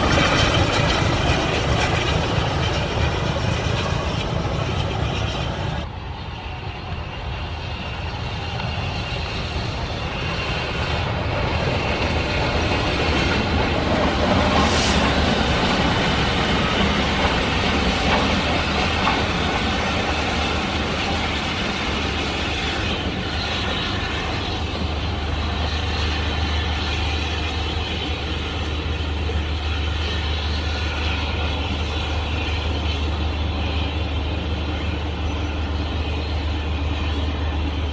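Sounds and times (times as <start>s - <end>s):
train rumbling on track: 0.0s - 37.9s.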